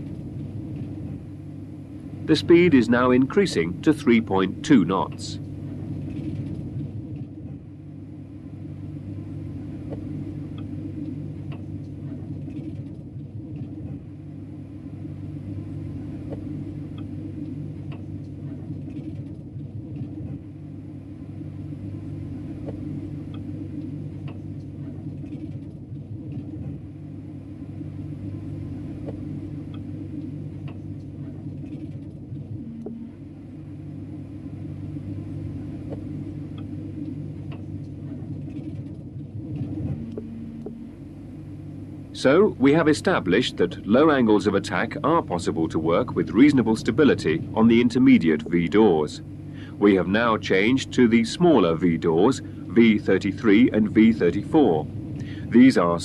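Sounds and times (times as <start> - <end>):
low machinery rumble: 0.0 - 56.0.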